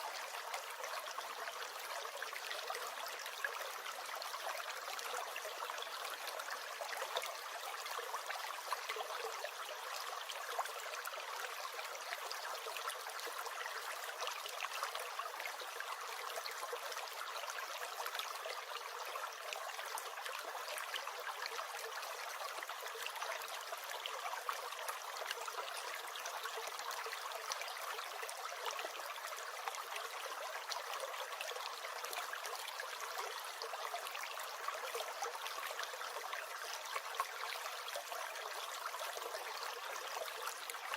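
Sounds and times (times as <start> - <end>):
stream gurgling and trickling: 0.0 - 40.9.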